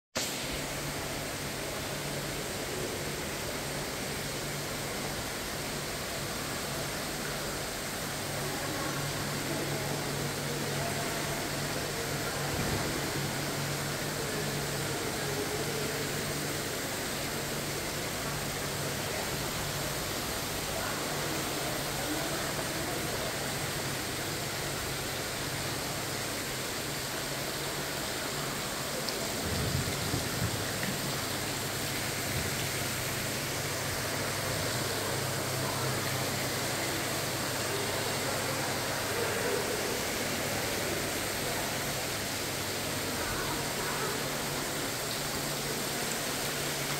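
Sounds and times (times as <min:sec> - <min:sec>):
water splashing from fountain: 0:00.2 - 0:46.9.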